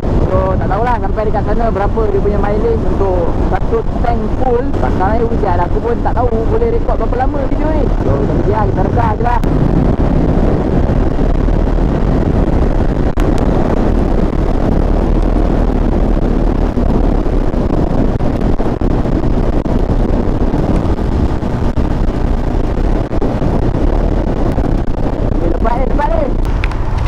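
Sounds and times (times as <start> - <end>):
wind rushing over helmet camera: 0.0 - 27.0
motorcycle engine running: 1.8 - 27.0.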